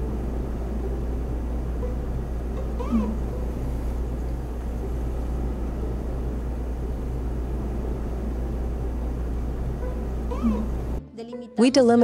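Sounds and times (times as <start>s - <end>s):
machine hum and rumble: 0.0s - 11.1s.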